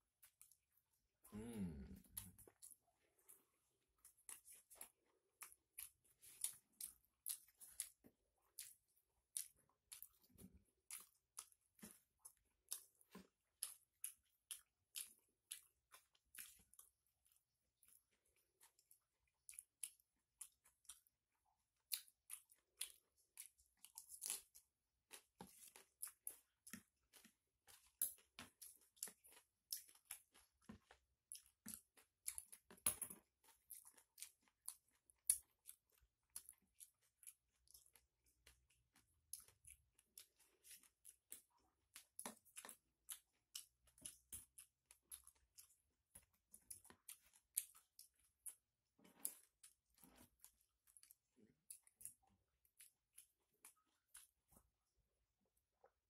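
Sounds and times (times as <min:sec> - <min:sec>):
chewing crunchy chips: 0:01.3 - 0:54.9.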